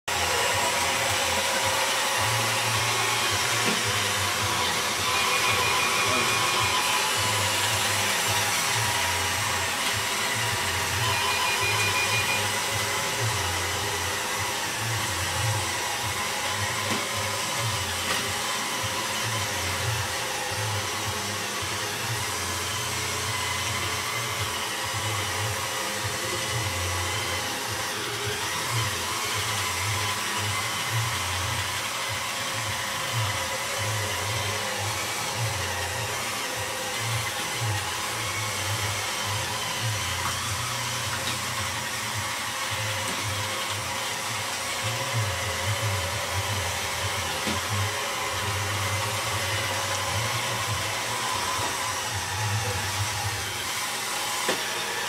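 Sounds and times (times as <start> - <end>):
robot vacuum whirring on carpet: 0.0 - 55.0.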